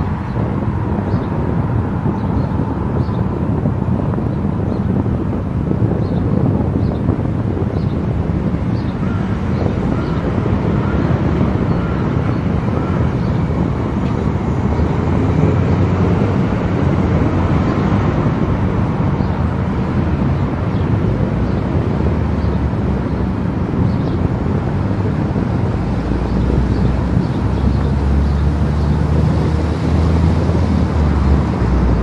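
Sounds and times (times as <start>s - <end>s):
wind noise: 0.0s - 32.0s.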